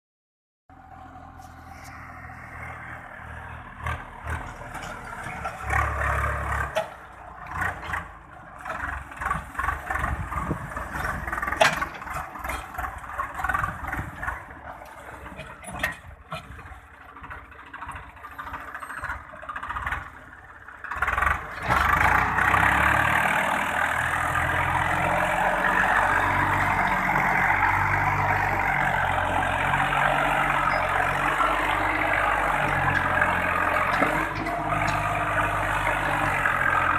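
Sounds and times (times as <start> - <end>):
tractor diesel engine running: 0.7 - 36.9.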